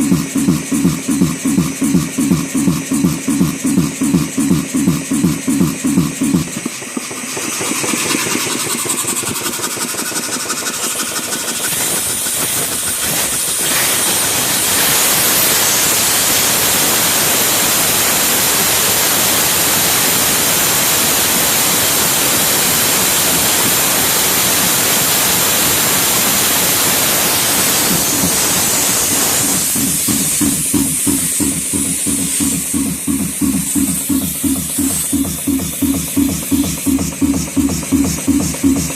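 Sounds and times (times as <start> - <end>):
compressed air hissing from valve: 0.7 - 38.9.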